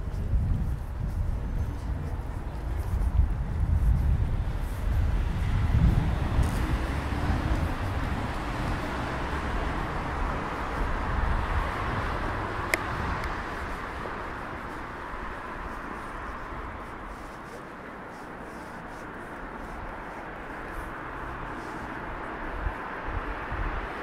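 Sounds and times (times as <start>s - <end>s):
traffic noise: 0.0s - 24.0s
vehicle passing with low rumble: 0.0s - 24.0s.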